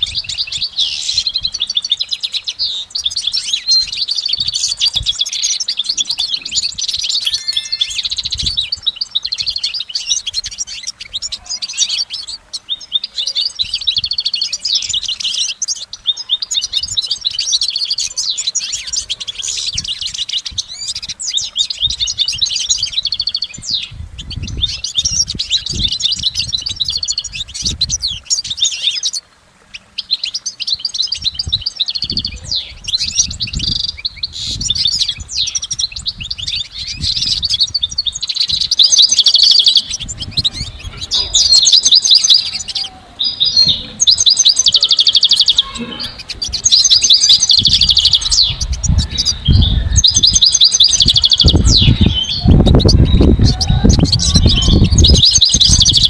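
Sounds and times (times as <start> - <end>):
goldfinch twittering song: 0.0 - 56.0.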